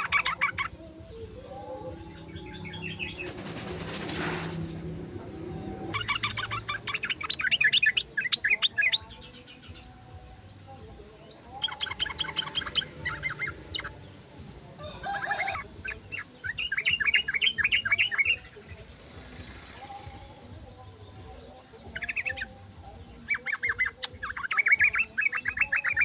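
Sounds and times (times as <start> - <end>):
bird singing chattering song: 0.0 - 26.0.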